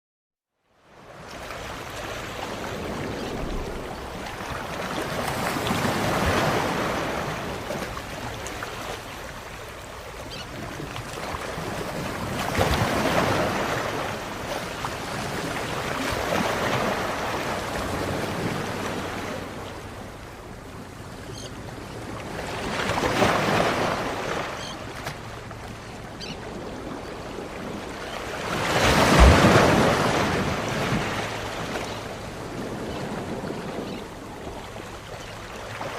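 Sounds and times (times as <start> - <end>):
waves breaking on a beach: 0.8 - 35.9.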